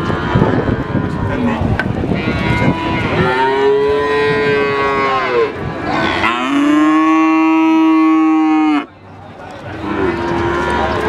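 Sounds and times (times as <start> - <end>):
cattle mooing: 0.0 - 8.9, 9.8 - 11.0.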